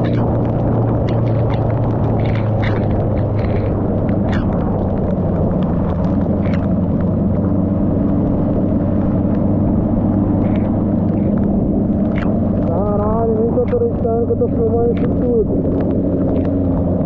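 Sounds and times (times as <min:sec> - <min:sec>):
heavy rain: 0:00.0 - 0:17.0
motorcycle engine running: 0:00.0 - 0:17.0
wind rumble on microphone: 0:00.0 - 0:17.0.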